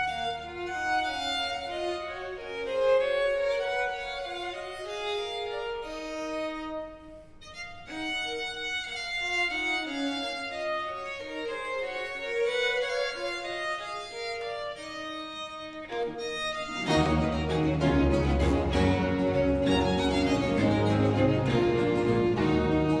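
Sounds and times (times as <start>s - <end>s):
baroque string ensemble playing: 0.0s - 23.0s.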